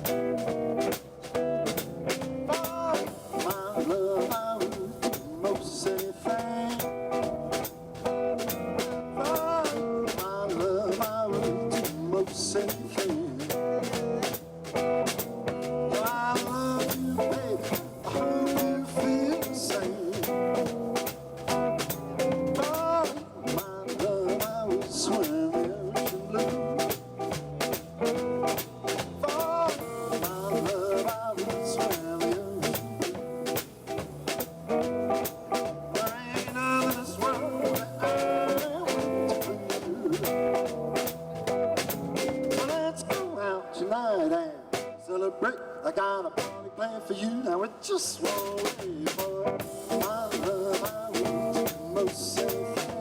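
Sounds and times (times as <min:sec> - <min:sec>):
drums played with brushes: 0:00.0 - 0:43.4, 0:44.7 - 0:45.0, 0:48.0 - 0:53.0
jazz melody line: 0:00.0 - 0:43.4, 0:48.3 - 0:53.0
walking upright bass: 0:00.0 - 0:43.4, 0:48.3 - 0:53.0.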